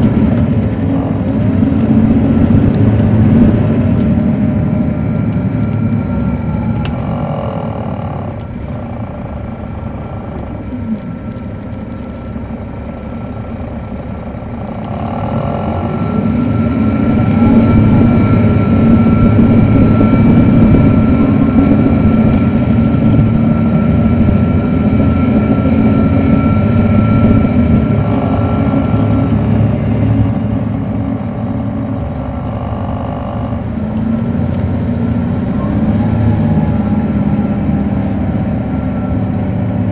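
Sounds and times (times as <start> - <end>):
diesel coach engine: 0.0 - 39.9
steady whine: 0.0 - 39.9.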